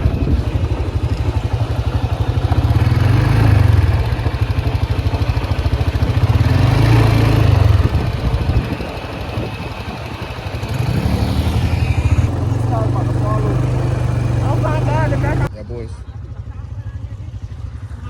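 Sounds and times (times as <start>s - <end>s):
atv engine revving: 0.0s - 15.5s.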